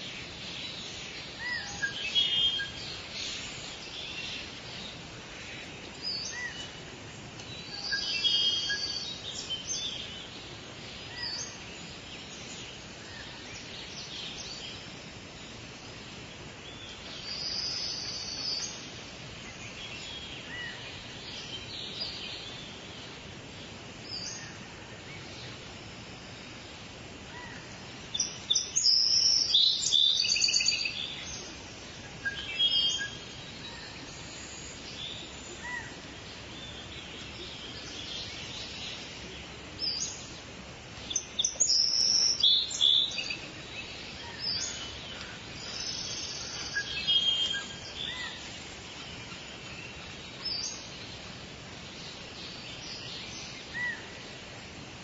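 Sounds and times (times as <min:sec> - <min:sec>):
birds chirping and singing: 0:00.0 - 0:23.3, 0:27.4 - 0:54.4
steady background hiss: 0:00.0 - 0:55.0.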